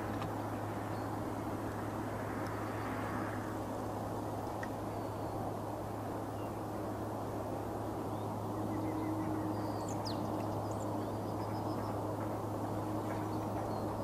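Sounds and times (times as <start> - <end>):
distant airport rumble: 0.0 - 14.0.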